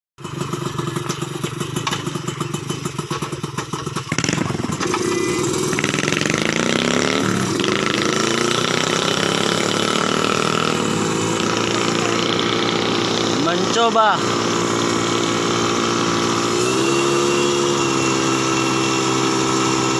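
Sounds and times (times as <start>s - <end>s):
aircraft engine running: 0.3s - 19.9s.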